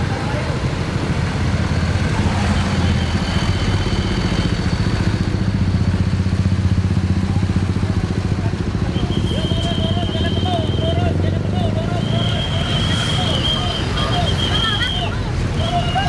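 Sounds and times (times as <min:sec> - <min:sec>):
truck diesel engine running: 0:00.0 - 0:15.6.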